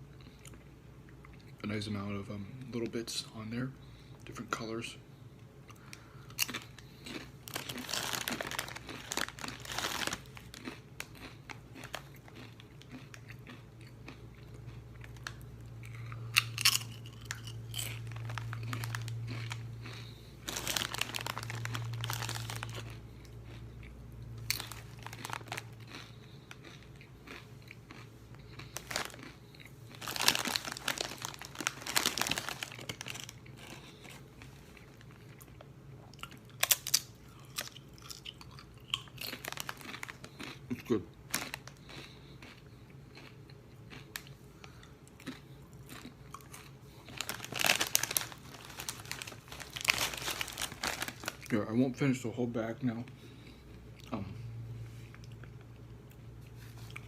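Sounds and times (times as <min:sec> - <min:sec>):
crunching and chewing chips: 0:05.4 - 0:52.2, 0:52.8 - 0:57.0.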